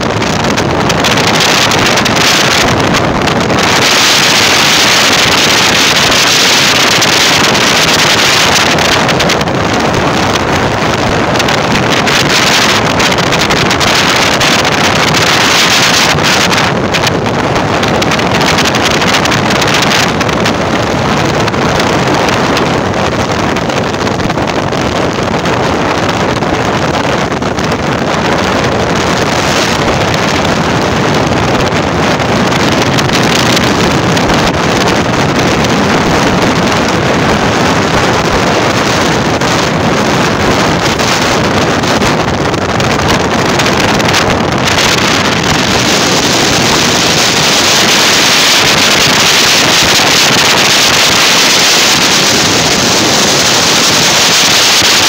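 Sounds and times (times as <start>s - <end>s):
vehicle road noise: 0.0s - 55.0s
wind buffeting microphone: 0.0s - 55.0s.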